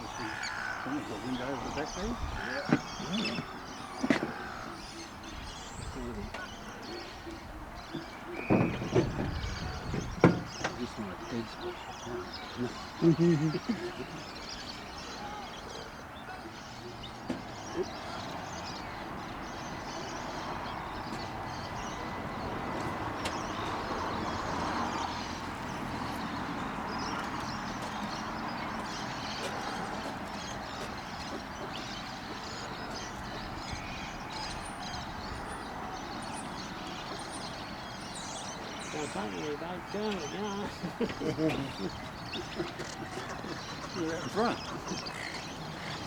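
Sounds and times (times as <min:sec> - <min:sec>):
birds chirping and calling: 0:00.0 - 0:46.0.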